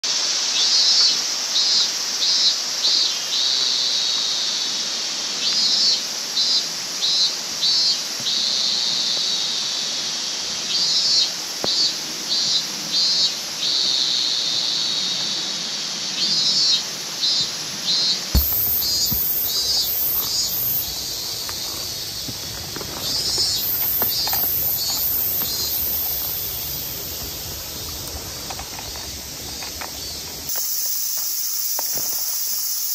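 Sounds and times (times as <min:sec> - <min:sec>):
steady rushing hiss: 0:00.1 - 0:32.9.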